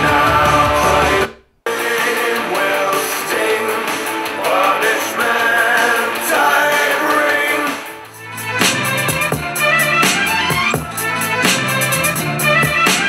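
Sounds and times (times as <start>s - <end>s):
song with singing from speaker: 0.0s - 13.0s.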